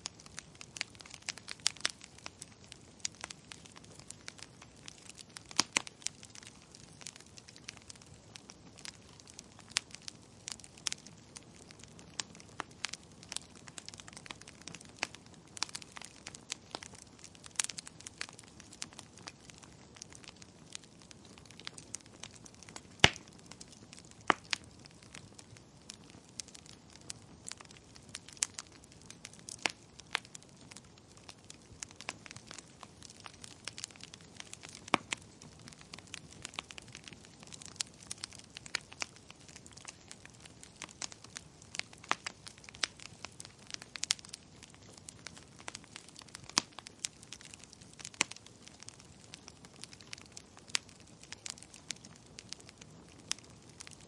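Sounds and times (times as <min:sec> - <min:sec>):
faint steady hiss: 0:00.0 - 0:54.0
wood fire crackling: 0:00.0 - 0:54.0.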